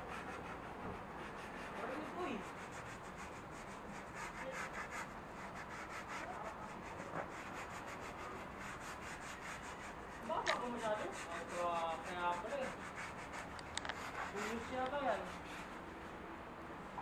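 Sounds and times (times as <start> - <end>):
brush scrubbing leather: 0.1 - 15.8.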